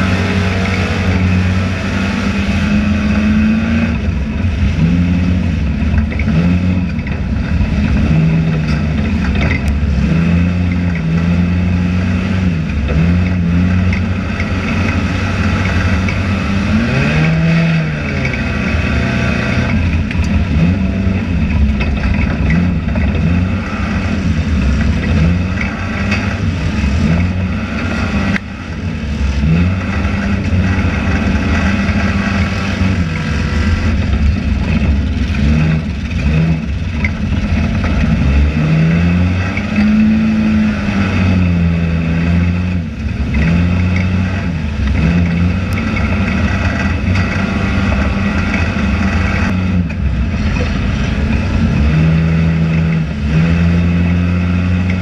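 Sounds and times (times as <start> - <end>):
race car engine revving: 0.0 - 55.0
steady low rumble: 0.0 - 55.0.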